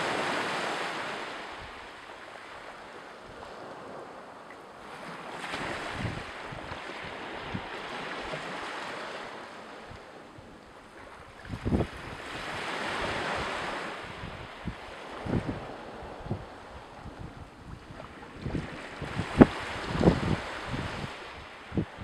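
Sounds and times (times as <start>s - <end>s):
wind buffeting microphone: 2.7s - 22.0s.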